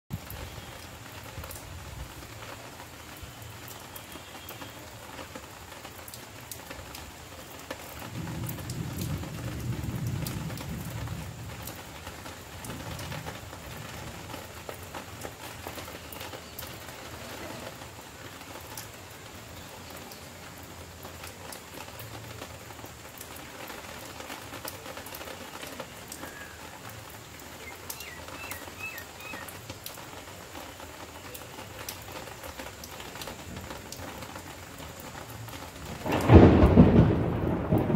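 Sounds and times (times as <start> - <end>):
light rain falling: 0.1 - 37.9.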